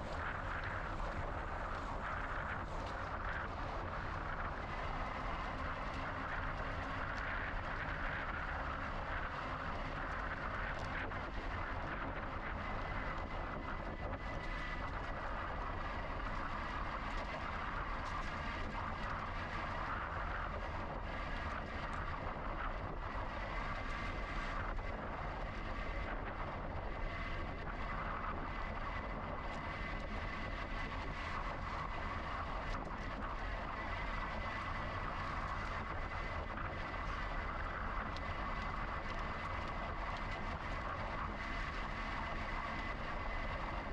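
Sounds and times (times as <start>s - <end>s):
electric bicycle tyre hum: 0.0s - 43.9s.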